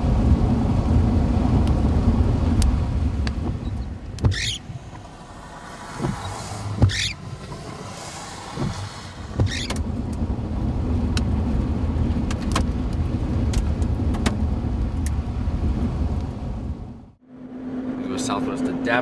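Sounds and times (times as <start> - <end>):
windshield wiper swish: 0.0 - 16.7
car engine and road rumble: 0.0 - 19.0.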